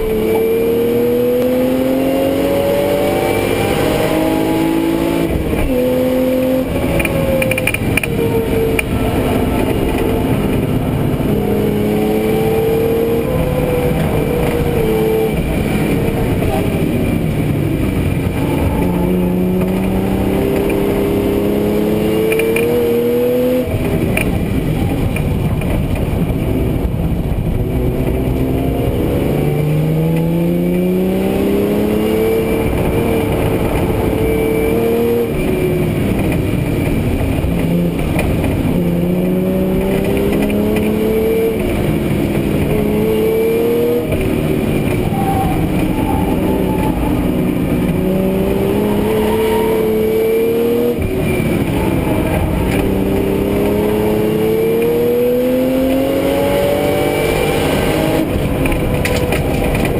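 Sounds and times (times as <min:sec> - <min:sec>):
car engine accelerating: 0:00.0 - 0:59.9
road and tyre noise: 0:00.0 - 0:59.9.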